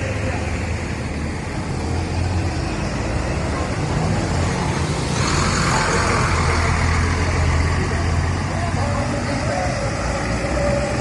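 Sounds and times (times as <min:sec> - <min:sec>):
bus engine humming: 0:00.0 - 0:11.0
road traffic noise: 0:00.0 - 0:11.0.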